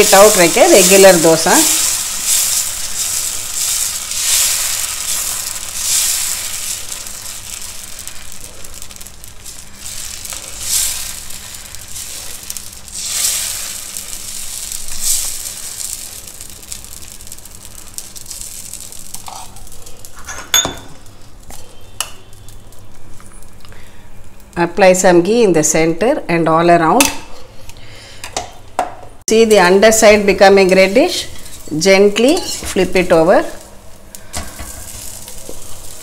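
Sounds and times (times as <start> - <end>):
batter sizzling on hot pan: 0.0 - 25.4, 29.7 - 36.0.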